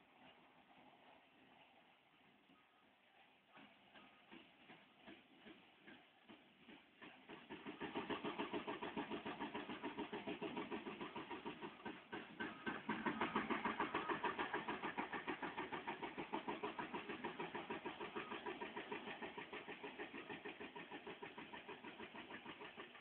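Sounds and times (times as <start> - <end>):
diesel engine chugging: 0.1 - 23.0.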